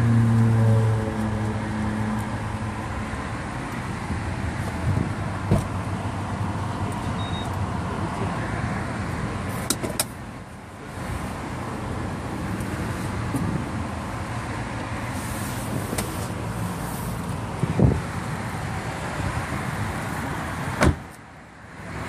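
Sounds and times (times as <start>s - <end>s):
car cabin hum and hiss: 2.2s - 8.4s, 9.0s - 22.0s.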